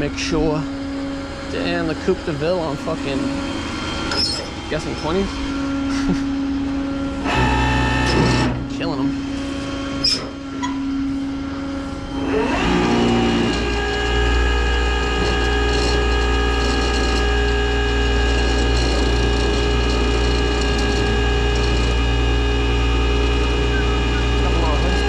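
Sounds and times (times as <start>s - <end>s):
truck engine and hydraulic drive: 0.0s - 25.0s.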